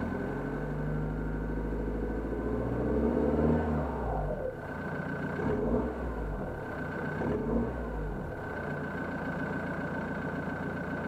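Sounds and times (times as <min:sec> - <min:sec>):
diesel car exhaust blips and idle: 0:00.0 - 0:11.0.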